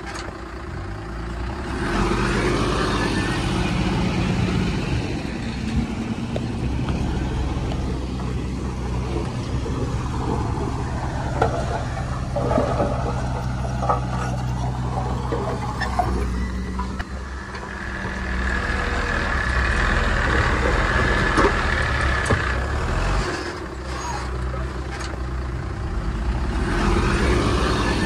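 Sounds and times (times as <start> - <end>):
heavy machinery diesel engine: 0.0 - 28.0.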